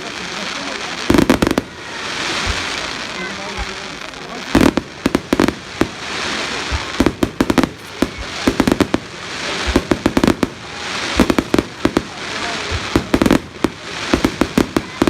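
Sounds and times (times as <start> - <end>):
fireworks bangs and crackles: 0.0 - 15.0
fireworks hissing fizz: 0.0 - 15.0.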